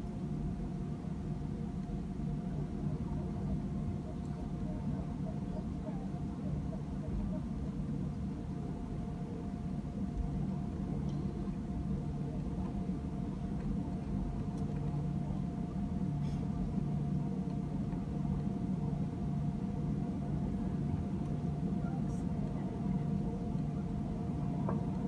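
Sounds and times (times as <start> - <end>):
aircraft engines rumbling at idle: 0.0 - 25.0
thin steady whine: 0.0 - 25.0.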